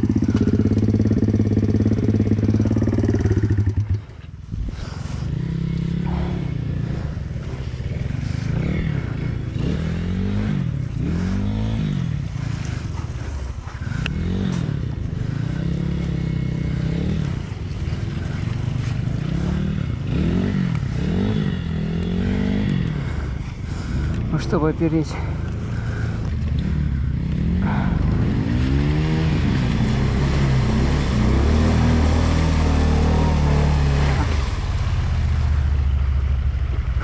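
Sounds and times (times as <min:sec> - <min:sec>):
pit bike engine revving: 0:00.0 - 0:04.2, 0:04.8 - 0:37.0.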